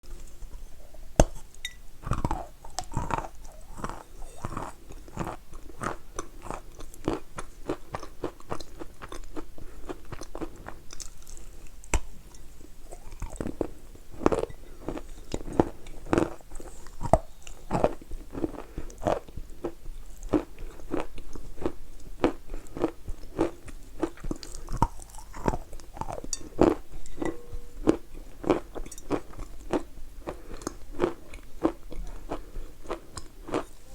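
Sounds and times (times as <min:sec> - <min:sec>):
crunchy biting and chewing: 0:02.0 - 0:11.6, 0:12.8 - 0:27.2, 0:27.8 - 0:33.9.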